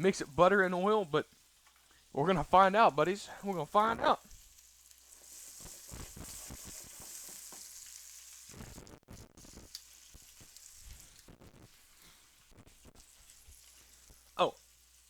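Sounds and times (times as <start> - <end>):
chicken sizzling in a skillet: 0.0 - 15.0.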